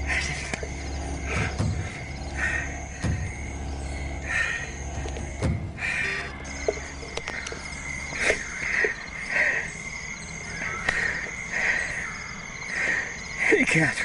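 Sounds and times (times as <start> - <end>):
pulsing frog call: 0.0 - 13.5
high insect drone: 0.0 - 14.0.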